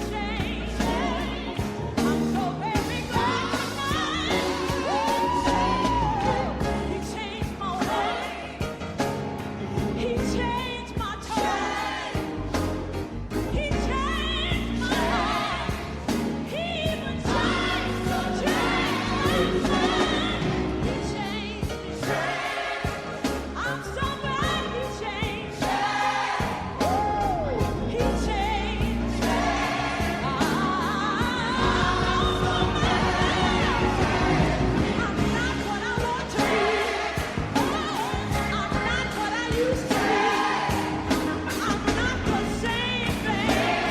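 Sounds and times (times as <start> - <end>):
band with bass and drums: 0.0 - 43.9
choir singing gospel: 0.0 - 43.9.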